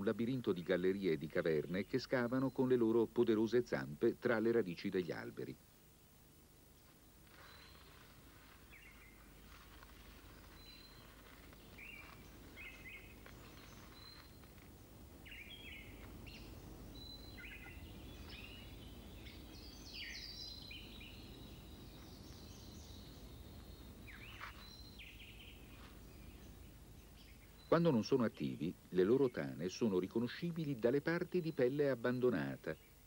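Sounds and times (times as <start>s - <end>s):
birds calling: 6.1s - 33.0s.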